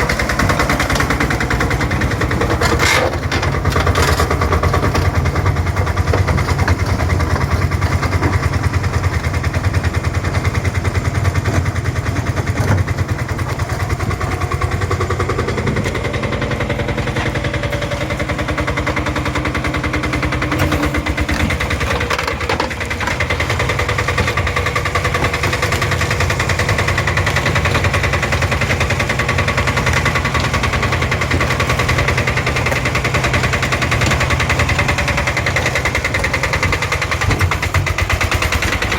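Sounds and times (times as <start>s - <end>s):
dumper engine chugging: 0.0s - 38.9s.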